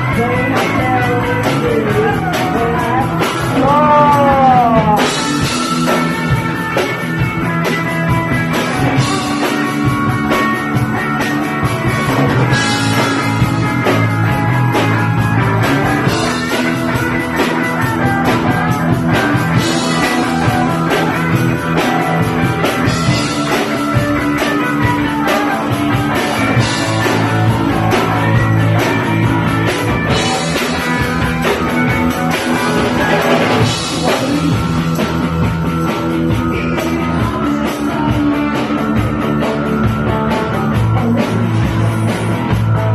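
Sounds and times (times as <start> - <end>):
punk band playing live: 0.0 - 42.9.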